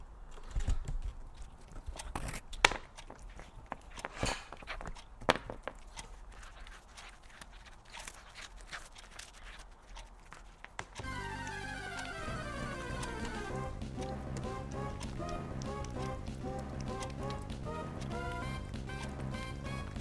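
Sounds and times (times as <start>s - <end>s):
cat chewing food: 0.3s - 10.7s, 12.8s - 20.0s.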